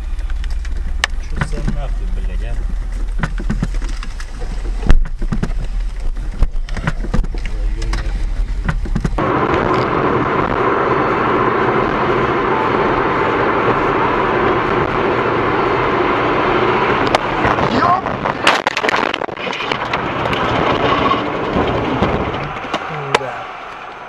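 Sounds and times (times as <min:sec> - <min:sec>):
car driving noise: 0:00.0 - 0:24.0
low hum: 0:00.0 - 0:24.0.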